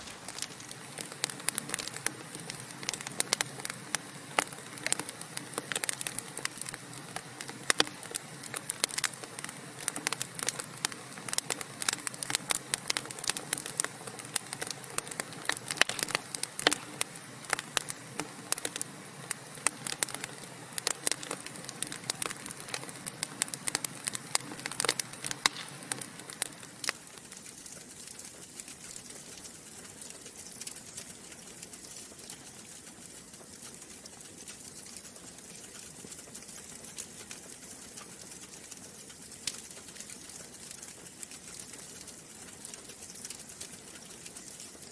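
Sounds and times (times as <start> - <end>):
soft hiss: 0.0 - 44.9
wood fire crackling: 0.0 - 44.9.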